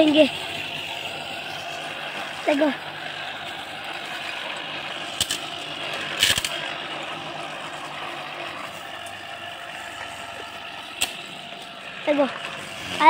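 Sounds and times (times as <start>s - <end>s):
electric grass cutter running: 0.0s - 13.0s.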